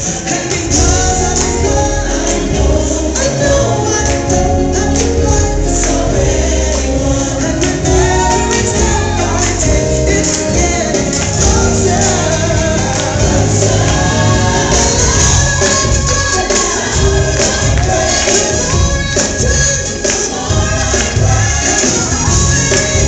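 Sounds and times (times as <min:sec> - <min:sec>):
band playing steady beat: 0:00.0 - 0:23.0
choir singing gospel: 0:00.0 - 0:23.0.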